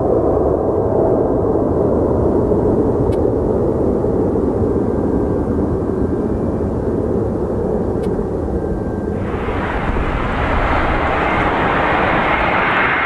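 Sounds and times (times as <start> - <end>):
jet airliner engines rumbling: 0.0 - 13.0.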